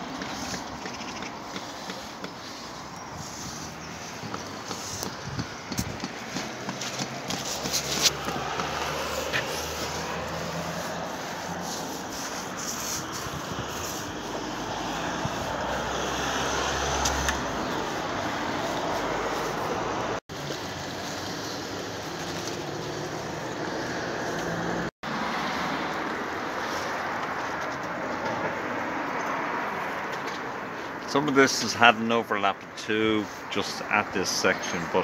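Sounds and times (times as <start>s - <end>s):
distant road traffic hiss: 0.0s - 35.0s.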